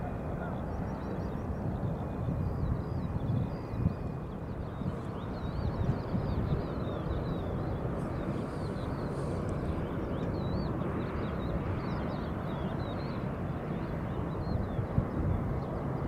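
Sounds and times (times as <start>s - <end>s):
jet engine rumble: 0.0s - 16.0s.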